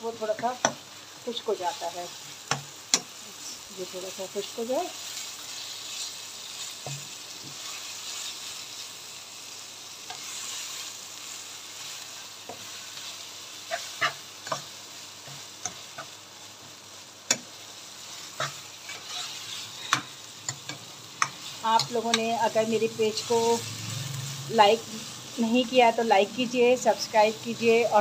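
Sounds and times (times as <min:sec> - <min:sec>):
meat sizzling in a pan: 0:00.0 - 0:28.0.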